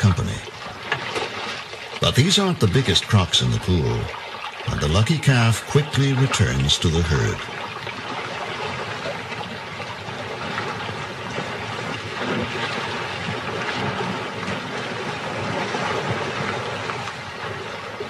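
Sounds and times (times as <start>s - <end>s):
water splashing and churning: 0.0s - 18.0s.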